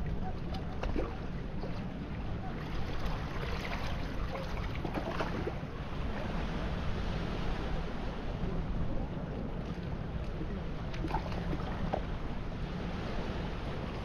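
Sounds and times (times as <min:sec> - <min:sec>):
wind on the microphone: 0:00.0 - 0:14.0.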